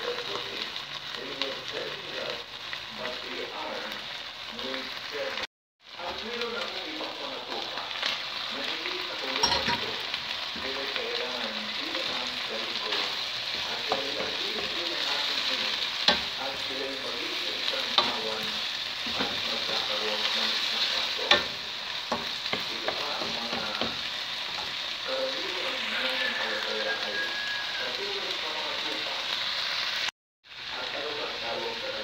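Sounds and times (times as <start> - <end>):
vegetables sizzling in a wok: 0.0 - 32.0.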